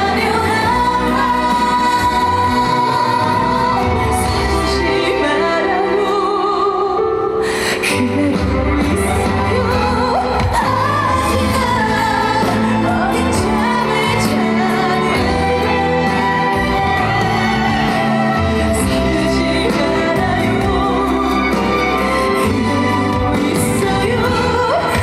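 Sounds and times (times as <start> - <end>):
woman singing with vibrato: 0.0 - 25.0.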